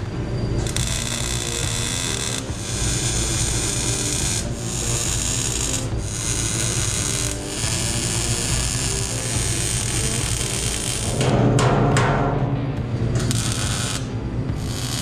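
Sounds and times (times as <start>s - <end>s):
welder arc crackling and sizzling: 0.0s - 11.4s, 13.1s - 15.0s.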